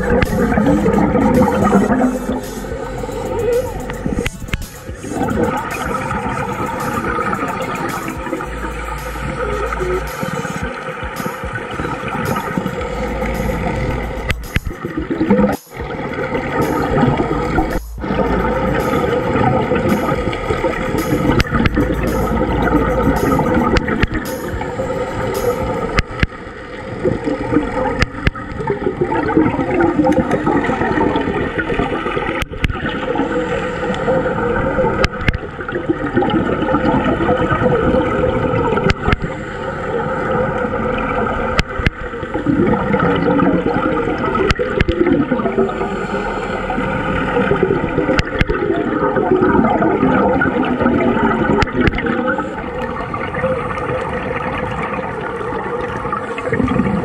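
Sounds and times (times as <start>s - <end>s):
bubbles gurgling underwater: 0.0s - 57.0s.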